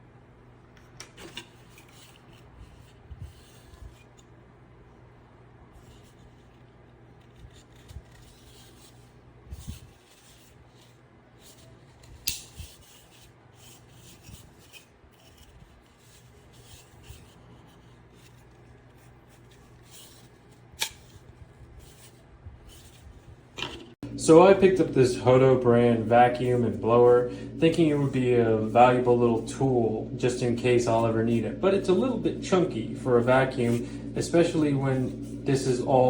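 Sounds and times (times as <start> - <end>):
low steady hum: 0.0 - 36.0
objects rubbing and scraping: 1.2 - 4.3, 5.8 - 36.0.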